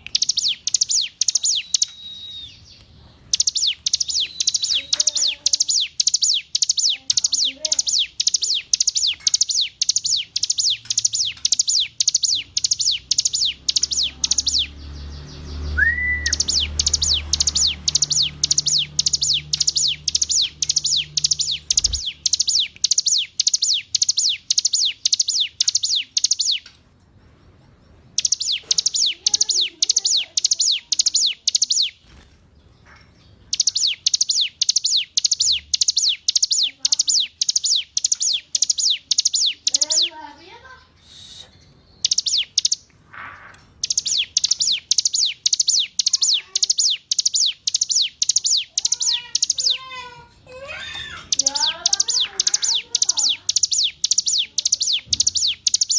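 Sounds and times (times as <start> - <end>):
bird singing sharp chirps: 0.0 - 26.7, 28.2 - 32.2, 33.5 - 40.3, 41.0 - 42.9, 43.7 - 50.0, 50.7 - 55.9.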